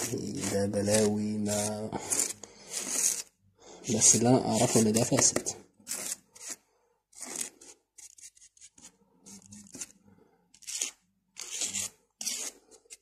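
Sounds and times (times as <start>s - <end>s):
teaspoon scraping powder: 0.0s - 13.0s.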